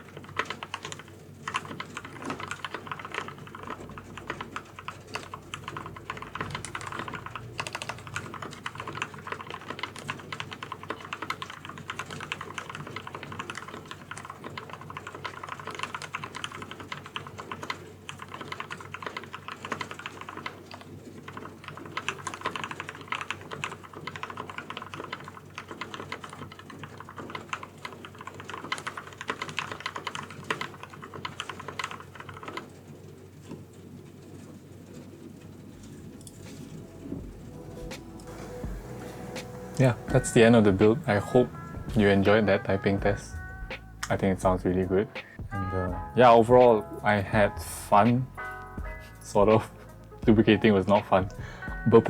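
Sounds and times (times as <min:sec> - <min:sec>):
mechanical keyboard typing: 0:00.0 - 0:48.8.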